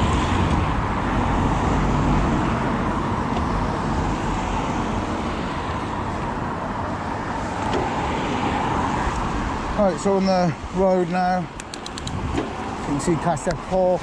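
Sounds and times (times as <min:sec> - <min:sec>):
wind buffeting microphone: 0:00.0 - 0:06.7, 0:07.8 - 0:14.0
traffic: 0:00.0 - 0:14.0
tyres on tarmac: 0:00.0 - 0:14.0.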